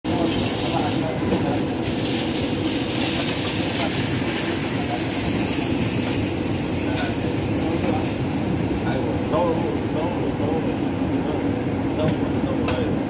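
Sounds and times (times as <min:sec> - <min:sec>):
broiler rumble and hiss: 0:00.1 - 0:13.0
faint constant hum: 0:00.1 - 0:13.0.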